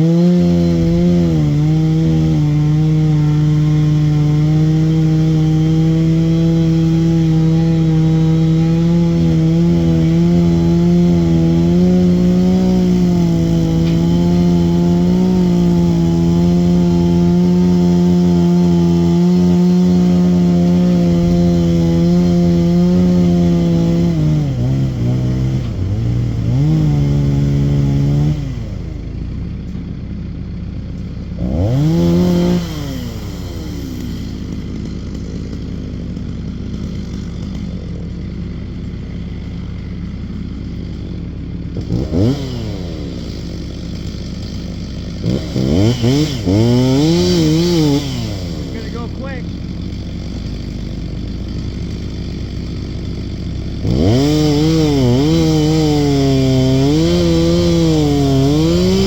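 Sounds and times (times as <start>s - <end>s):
chainsaw running: 0.0s - 59.0s.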